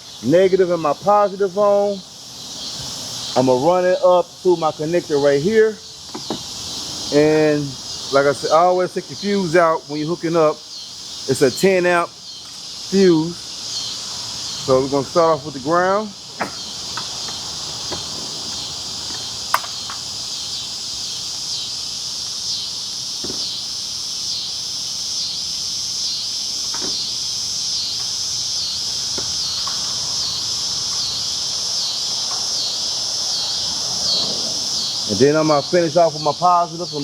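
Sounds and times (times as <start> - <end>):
insect chorus chirring: 0.0 - 37.0.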